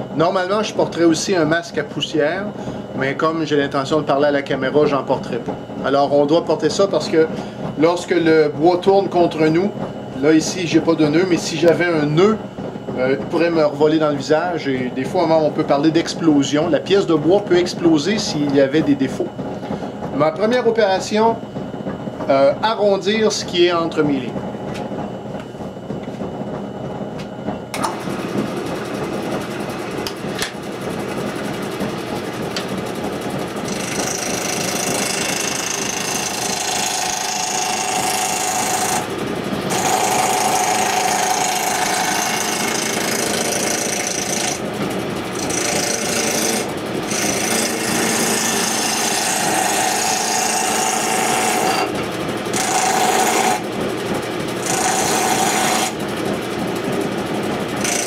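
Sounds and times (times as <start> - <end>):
wood lathe running: 0.0 - 27.0, 27.7 - 58.0
tool cutting spinning wood: 0.0 - 58.0.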